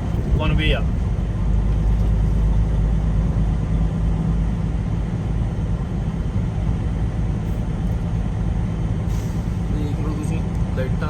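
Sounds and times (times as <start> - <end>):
road noise: 0.0 - 11.0
truck engine droning: 0.0 - 11.0.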